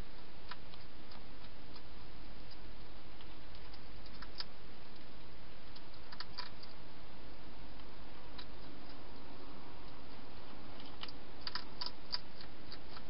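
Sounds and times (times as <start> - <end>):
hedgehog eating clicks: 0.4 - 5.1, 5.7 - 6.8, 7.8 - 13.0.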